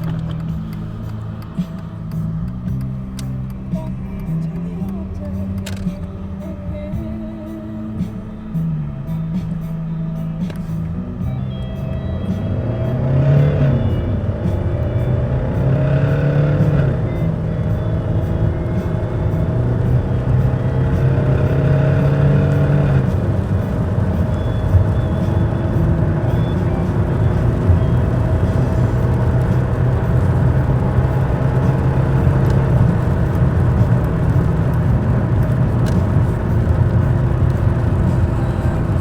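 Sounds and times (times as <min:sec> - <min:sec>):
diesel car engine accelerating: 0:00.0 - 0:39.0.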